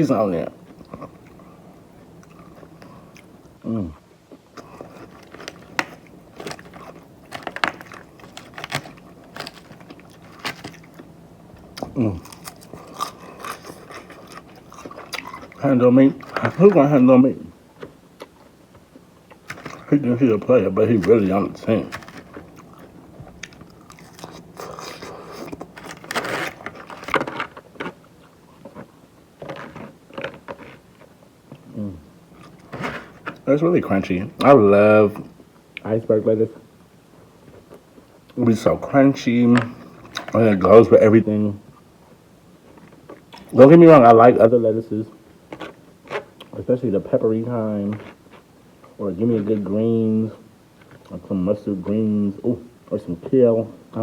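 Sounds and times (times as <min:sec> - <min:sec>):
crunchy chewing: 0:00.0 - 0:03.6, 0:04.3 - 0:44.2, 0:45.1 - 0:49.9
quiet chewing: 0:00.0 - 0:35.9, 0:36.5 - 0:41.0, 0:41.6 - 0:43.8, 0:45.1 - 0:46.6, 0:47.6 - 0:49.8, 0:50.7 - 0:51.2.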